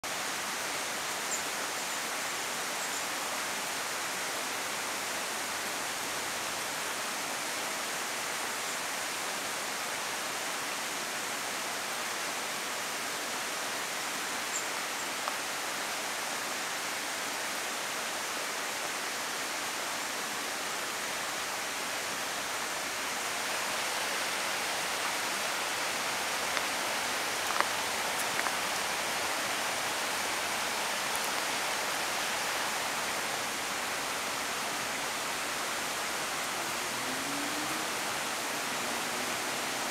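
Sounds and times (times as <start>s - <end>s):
woodland ambience hiss: 0.0s - 39.9s.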